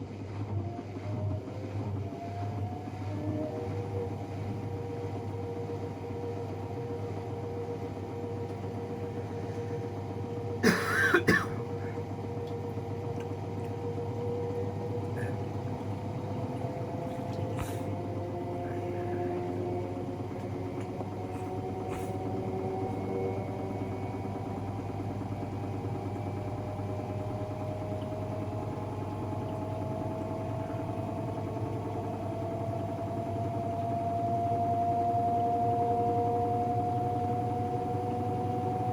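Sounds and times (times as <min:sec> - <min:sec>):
washing machine spin whine: 0:00.0 - 0:38.9.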